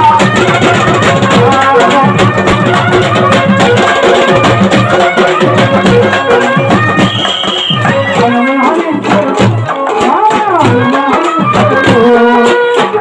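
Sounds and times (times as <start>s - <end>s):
drums beating steady rhythm: 0.0s - 13.0s
harmonium melody: 0.0s - 13.0s.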